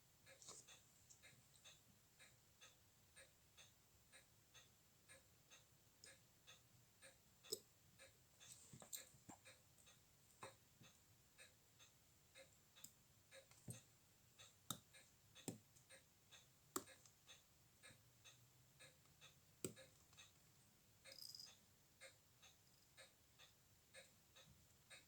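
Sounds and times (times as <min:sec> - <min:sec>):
faint regular ticking: 0:00.0 - 0:25.0.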